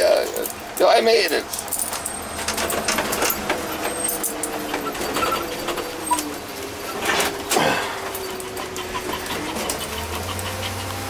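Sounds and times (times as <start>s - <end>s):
rattles and clicks: 0.0s - 11.0s
van cab whine: 0.0s - 11.0s
loud clatter: 1.5s - 10.9s.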